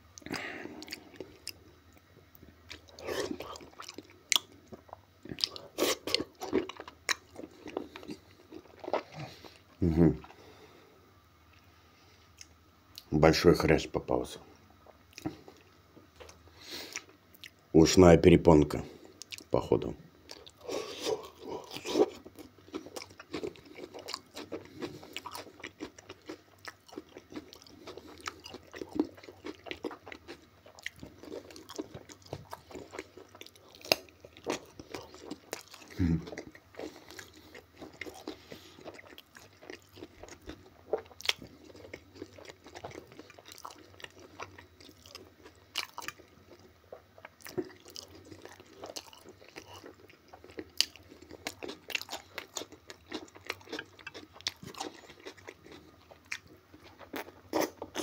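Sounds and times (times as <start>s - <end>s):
chewing and crunching cartilage: 0.2s - 10.4s, 20.2s - 58.0s.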